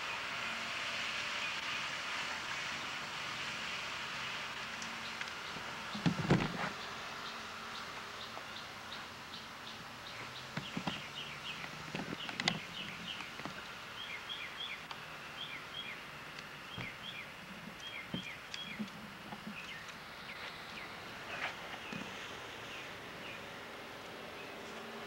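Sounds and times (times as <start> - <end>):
outdoor background noise: 0.0 - 25.0
small birds chirping: 1.4 - 25.0.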